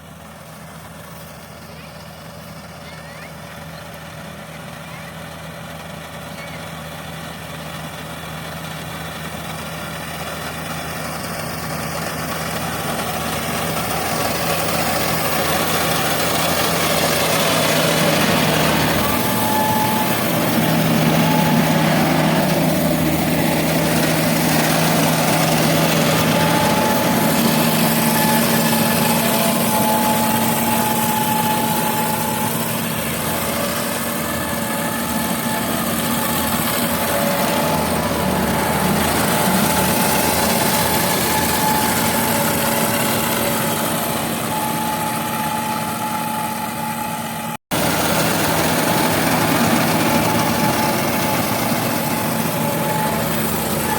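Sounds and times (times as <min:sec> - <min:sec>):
combine harvester diesel engine: 0:00.0 - 0:53.9.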